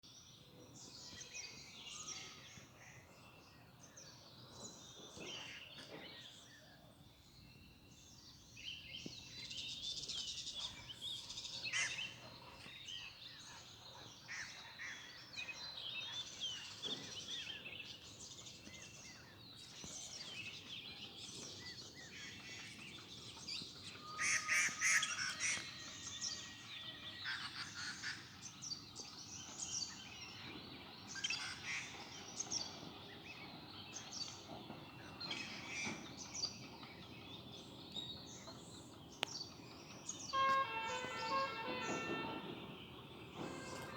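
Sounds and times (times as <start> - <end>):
faint outdoor background noise: 0.0 - 43.9
songbirds chirping and calling: 0.0 - 43.9.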